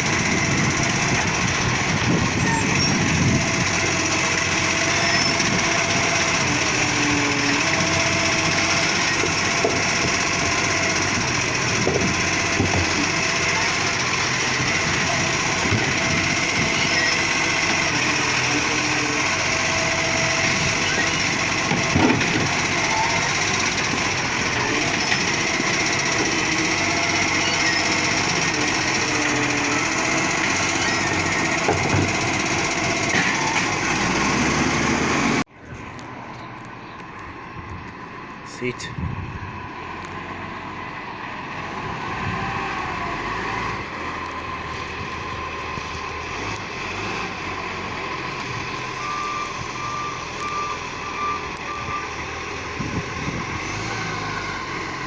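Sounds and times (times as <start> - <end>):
garbage truck engine running: 0.0 - 35.6, 36.5 - 55.0.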